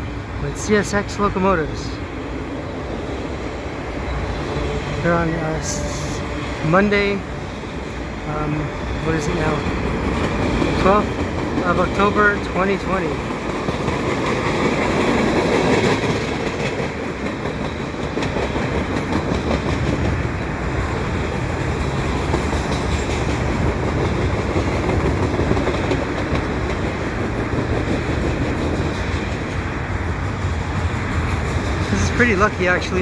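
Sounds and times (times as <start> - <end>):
freight train cars rolling past: 0.0 - 33.0.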